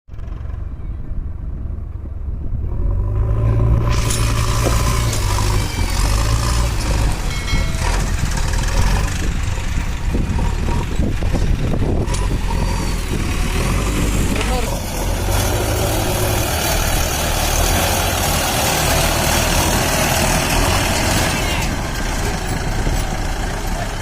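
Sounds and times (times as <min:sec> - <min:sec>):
tractor diesel engine droning: 0:00.1 - 0:24.0.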